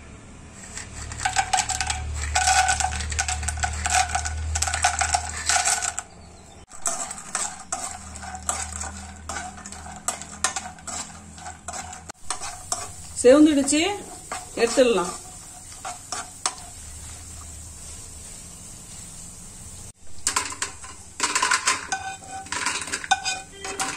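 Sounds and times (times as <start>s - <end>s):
nuts frying: 0.5s - 23.9s
spatula stirring and scraping: 0.5s - 23.9s
nuts clattering into a pan: 0.6s - 16.6s, 20.1s - 23.9s.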